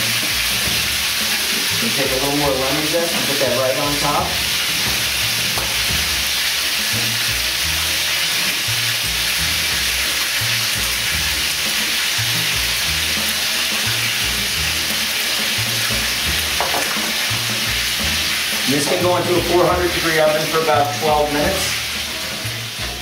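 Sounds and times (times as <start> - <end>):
background music with bass line: 0.0 - 23.0
chicken sizzling in a pan: 0.0 - 23.0.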